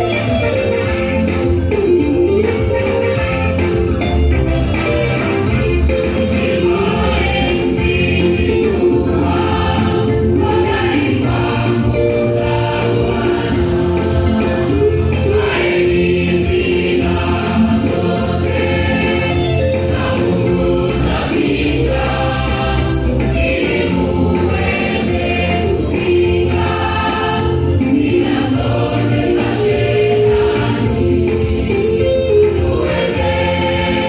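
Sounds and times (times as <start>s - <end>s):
band accompaniment: 0.0s - 34.0s
gospel choir singing: 0.0s - 34.0s.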